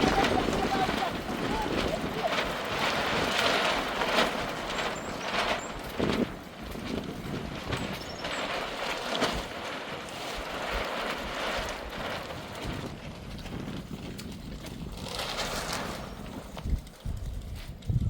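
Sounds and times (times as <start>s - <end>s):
wind gusting against microphone: 0.0s - 18.0s.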